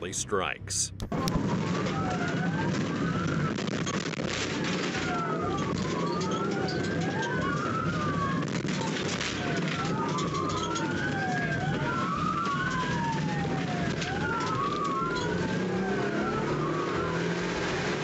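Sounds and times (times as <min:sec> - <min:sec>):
police sirens wailing: 0:00.8 - 0:18.0.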